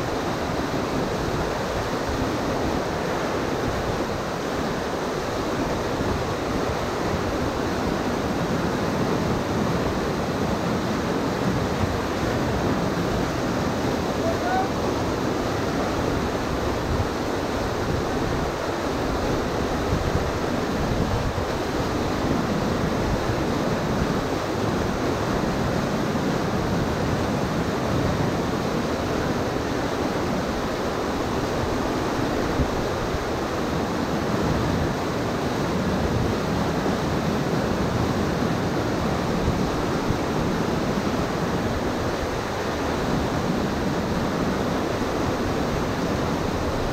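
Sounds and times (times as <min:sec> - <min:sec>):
whitewater rapids rushing: 0:00.0 - 0:46.9.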